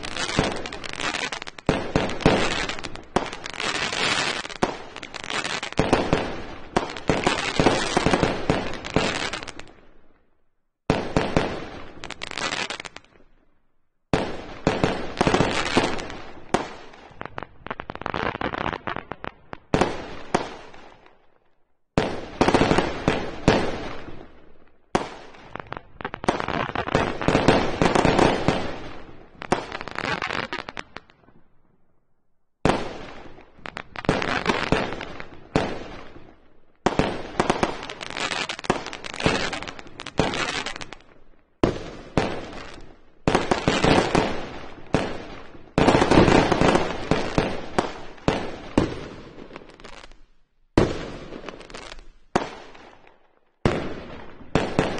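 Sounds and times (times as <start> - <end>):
fireworks bursting: 0.0 - 10.0, 10.9 - 13.3, 14.1 - 21.2, 24.9 - 31.2, 32.6 - 54.9.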